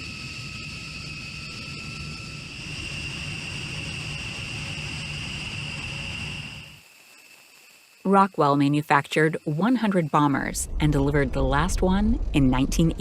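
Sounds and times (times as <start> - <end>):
jet engines with turbine whine: 0.0 - 13.0.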